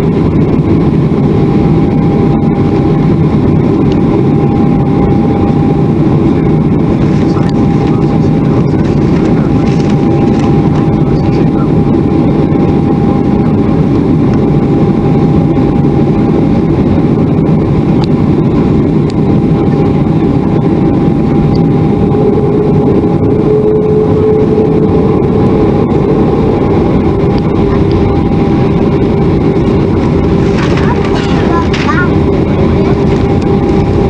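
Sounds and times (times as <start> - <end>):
jet engines rumbling with whine: 0.0 - 34.0
lower engine whine: 0.0 - 34.0.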